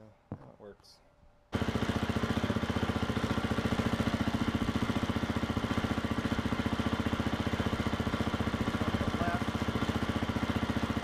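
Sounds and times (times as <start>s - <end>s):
motorcycle engine idling: 1.5s - 11.0s.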